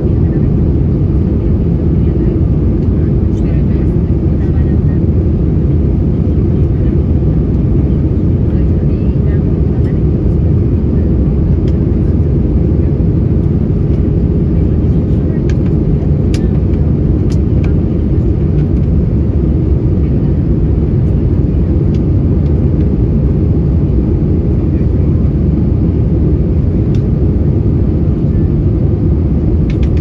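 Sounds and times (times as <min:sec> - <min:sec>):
aircraft cabin engine roar: 0:00.0 - 0:30.0.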